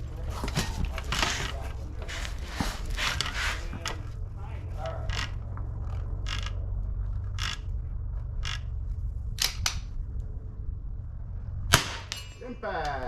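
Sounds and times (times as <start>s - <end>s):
wind rumbling on microphone: 0.0s - 12.2s.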